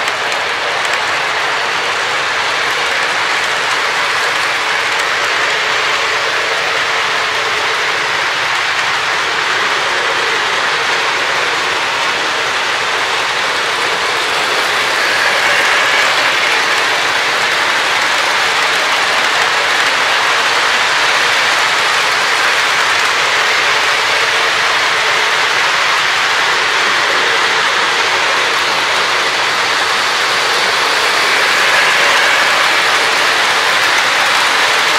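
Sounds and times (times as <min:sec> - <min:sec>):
model train wheels rolling on rail: 0:00.0 - 0:34.9.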